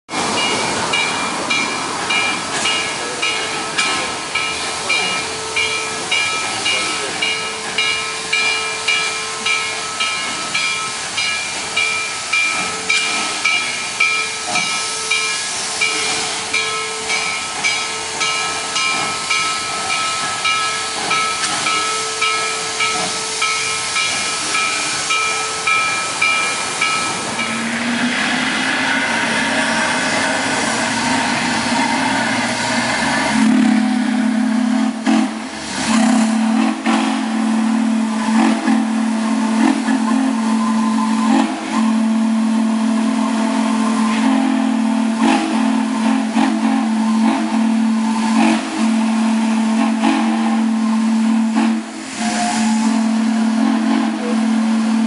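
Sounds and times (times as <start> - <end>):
steam locomotive hissing rhythmically: 0.1 - 55.0
steady steam hiss: 0.2 - 55.0.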